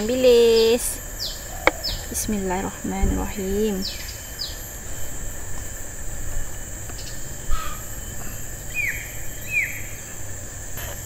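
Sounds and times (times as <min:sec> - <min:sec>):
bird chirps: 0:00.0 - 0:10.9
high-pitched insect drone: 0:00.0 - 0:11.0
low rumble: 0:00.0 - 0:11.0.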